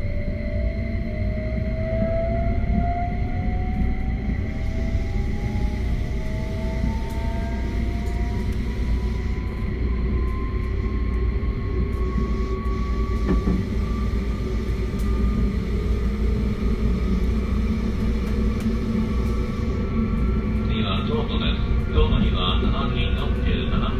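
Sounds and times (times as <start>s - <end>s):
electric train motor whine: 0.0s - 23.9s
wheels rumbling on rail: 0.0s - 23.9s.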